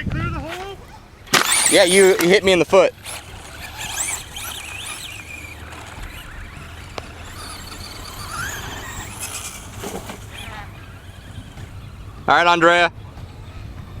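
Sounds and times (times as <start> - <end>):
electric motors whining: 0.4 - 13.9.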